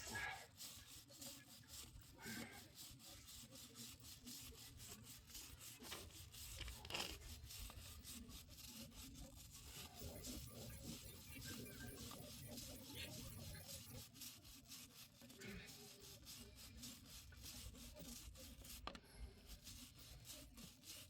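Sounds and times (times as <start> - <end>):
brush scrubbing a chain: 0.0 - 21.0.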